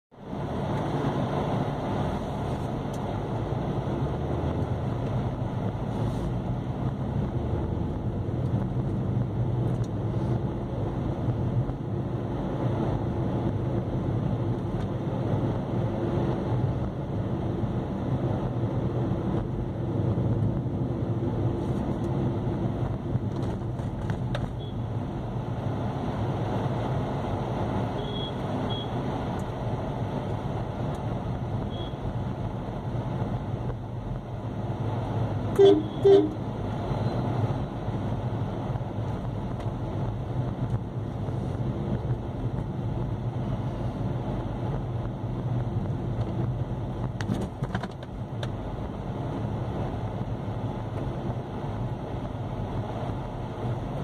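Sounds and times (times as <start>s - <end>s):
road noise on rough road: 0.0s - 54.0s
vehicle engine hum: 0.1s - 54.0s.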